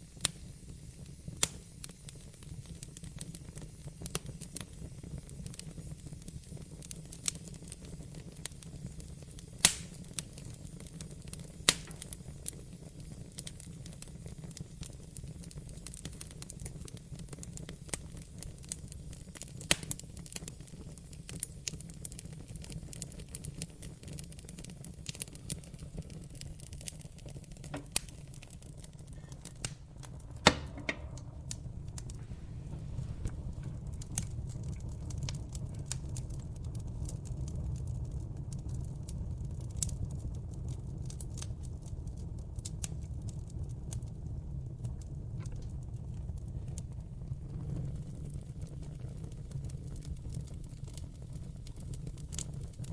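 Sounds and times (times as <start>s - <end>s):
fire popping and crackling: 0.0s - 52.9s
wood fire rumbling: 0.0s - 52.9s.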